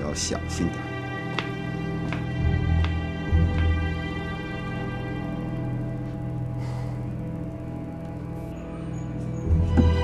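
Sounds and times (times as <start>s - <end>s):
tense sustained chord: 0.0s - 10.0s.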